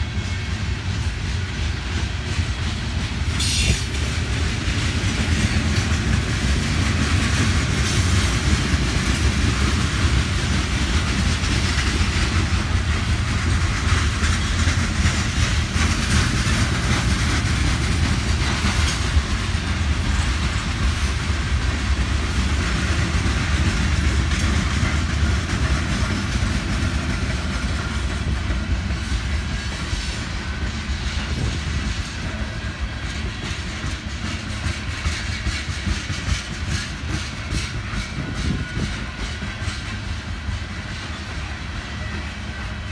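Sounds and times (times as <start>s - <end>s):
clickety-clack over rail joints: 0.0s - 42.9s
train wheels rumbling on rail: 0.0s - 42.9s.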